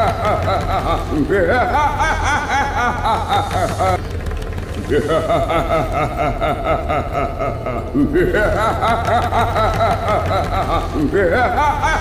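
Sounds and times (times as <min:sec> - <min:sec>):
cartoon villain laughing: 0:00.0 - 0:04.0, 0:04.8 - 0:12.0
low steady hum: 0:00.0 - 0:12.0.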